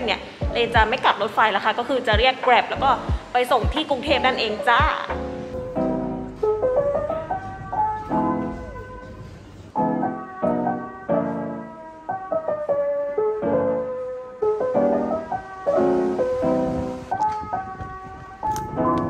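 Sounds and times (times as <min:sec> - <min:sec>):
light piano melody: 0:00.0 - 0:19.0.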